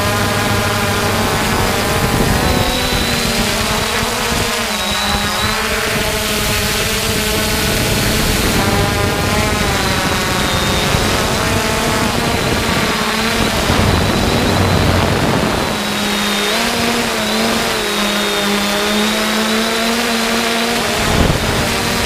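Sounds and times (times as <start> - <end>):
drone propellers whirring: 0.0 - 22.0
steady rushing hiss: 0.0 - 22.0.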